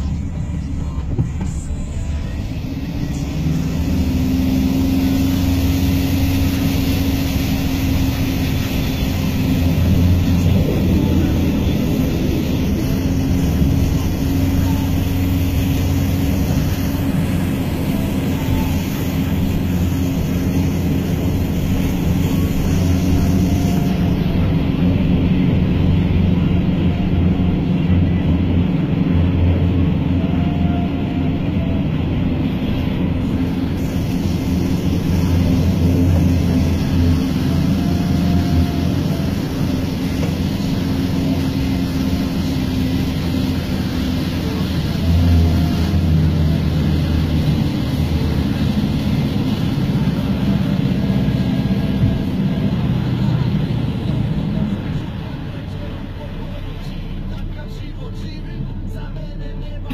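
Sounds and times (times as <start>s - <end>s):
car engine running: 0.0s - 59.9s
floodwater washing against car: 0.0s - 59.9s.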